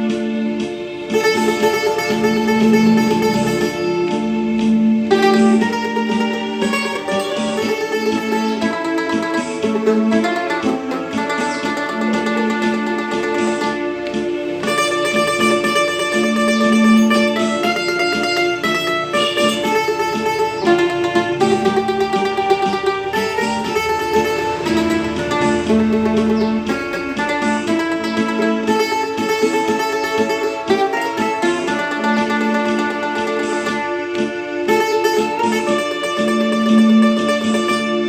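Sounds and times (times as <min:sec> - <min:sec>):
solo mandolin melody: 0:00.0 - 0:38.0.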